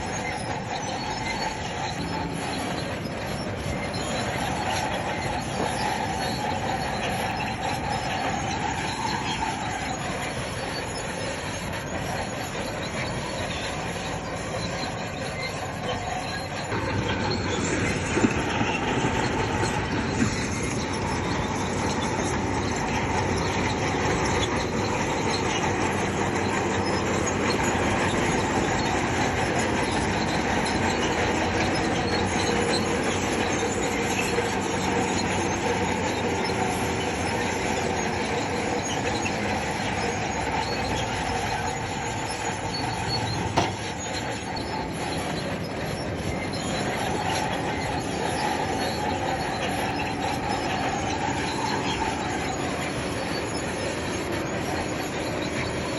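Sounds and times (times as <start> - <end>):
bulldozer diesel engine under load: 0.0 - 55.9
steel tracks squealing and clanking: 0.0 - 55.9.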